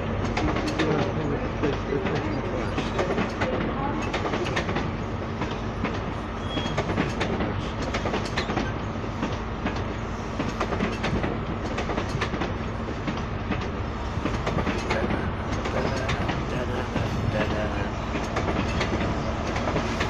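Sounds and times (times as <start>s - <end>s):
train wheels clicking over joints: 0.0s - 20.0s.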